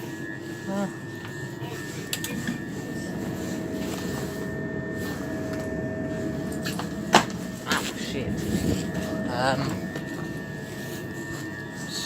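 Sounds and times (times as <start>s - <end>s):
electric train humming: 0.0s - 12.0s
thin steady whining tones: 0.0s - 12.0s.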